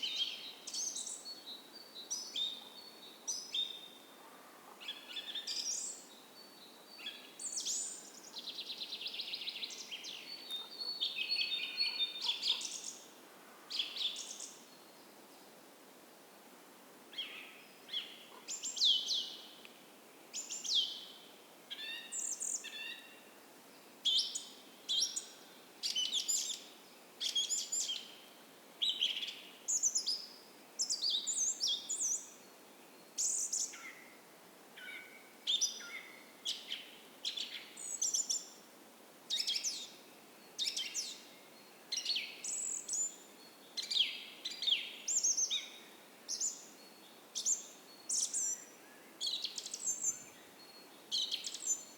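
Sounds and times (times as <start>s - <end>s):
faint steady hiss: 0.0s - 51.9s.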